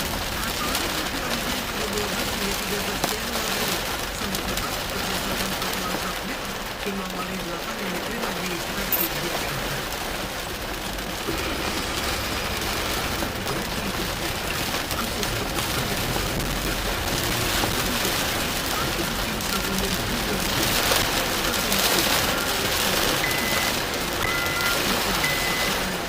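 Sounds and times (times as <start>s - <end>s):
heavy rain on car roof: 0.0s - 26.0s.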